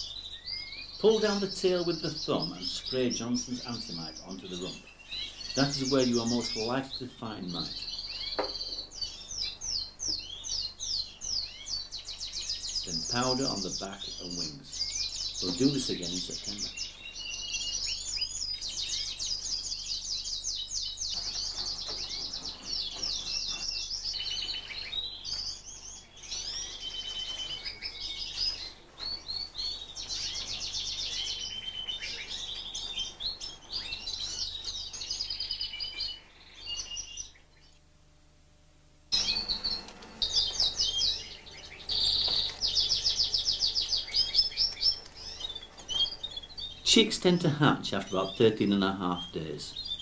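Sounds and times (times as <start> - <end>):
canaries singing trills: 0.0 - 38.0, 39.1 - 50.0.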